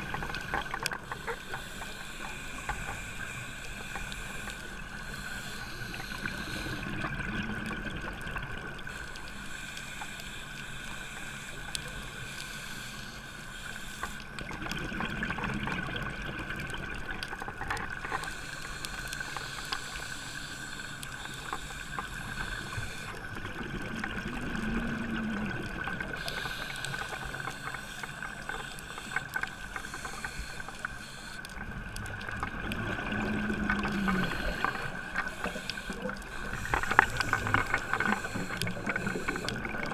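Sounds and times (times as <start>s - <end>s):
scuba regulator breathing: 0.0s - 7.2s, 8.9s - 14.4s, 18.0s - 23.7s, 26.0s - 39.9s
crackling clicks: 0.0s - 39.9s.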